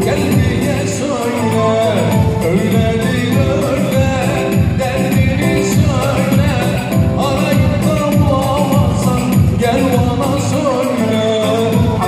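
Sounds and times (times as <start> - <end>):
band accompaniment: 0.0 - 12.0
man singing into a microphone: 0.0 - 12.0.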